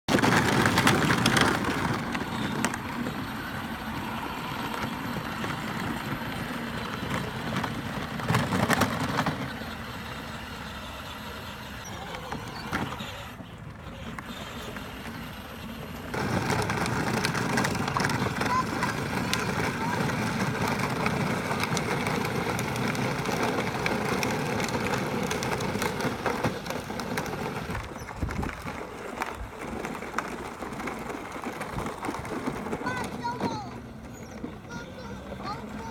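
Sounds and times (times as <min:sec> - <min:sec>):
atv engine rumbling: 0:00.0 - 0:35.9.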